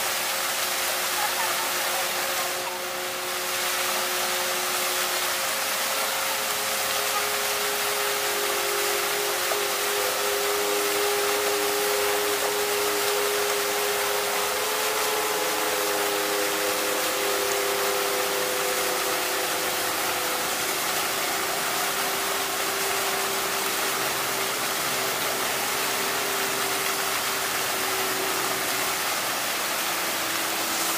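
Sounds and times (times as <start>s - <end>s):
fountain jets spraying water: 0.0s - 30.9s
long steady tones: 0.0s - 30.9s.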